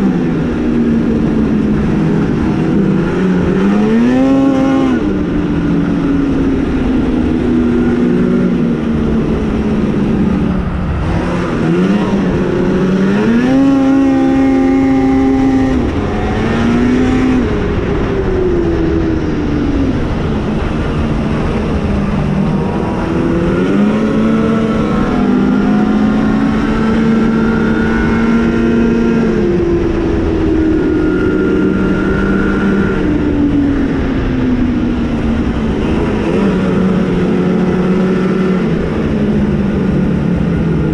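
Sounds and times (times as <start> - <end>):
snowmobile engine revving: 0.0 - 40.9
wind and track noise: 0.0 - 40.9.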